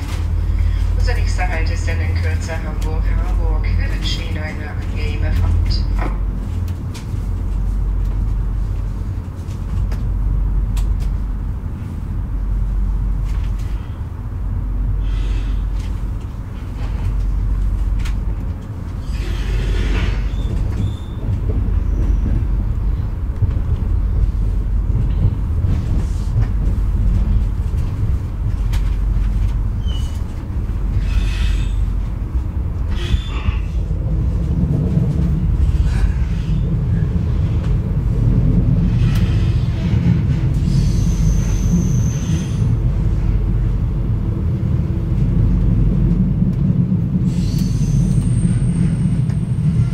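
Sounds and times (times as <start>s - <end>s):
train wheels rumbling on track: 0.0s - 49.9s.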